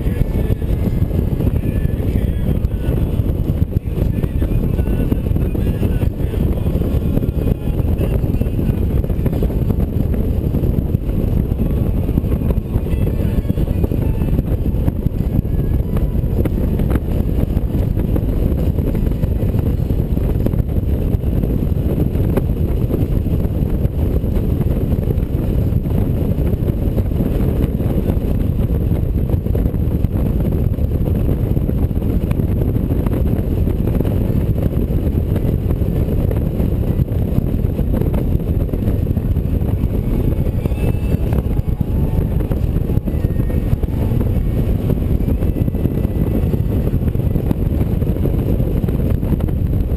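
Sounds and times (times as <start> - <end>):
motorcycle engine and road noise: 0.0 - 49.9
wind on microphone: 0.0 - 49.9.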